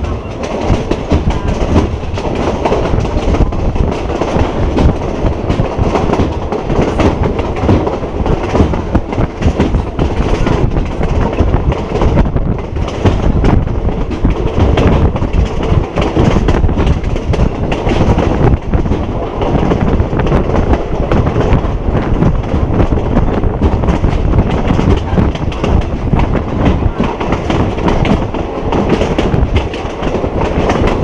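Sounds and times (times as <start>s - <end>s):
train rattling and clattering: 0.0s - 31.0s
train wheels rumbling on rails: 0.0s - 31.0s.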